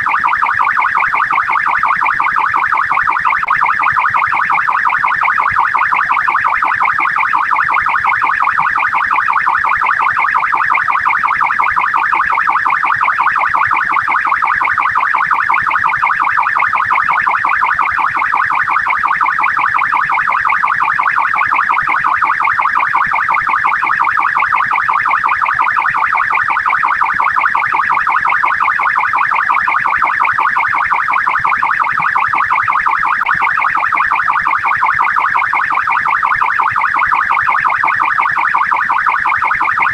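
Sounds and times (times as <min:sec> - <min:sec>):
police siren warbling: 0:00.0 - 0:39.9.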